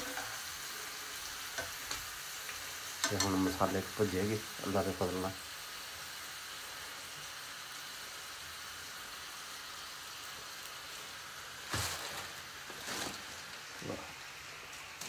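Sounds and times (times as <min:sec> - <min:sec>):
fish sizzling in frying pan: 0:00.0 - 0:15.0.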